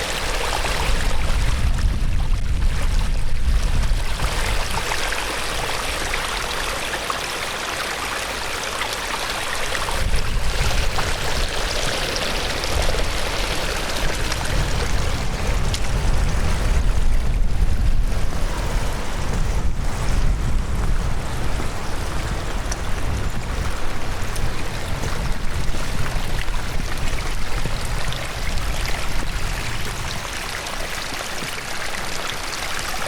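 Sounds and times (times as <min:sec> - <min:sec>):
fast-flowing stream rushing: 0:00.0 - 0:33.0.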